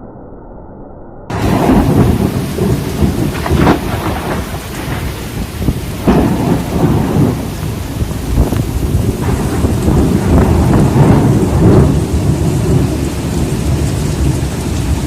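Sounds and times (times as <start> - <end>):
heavy rain: 1.3 - 15.0
strong wind: 1.3 - 15.0
thunder rumbling: 1.3 - 15.0.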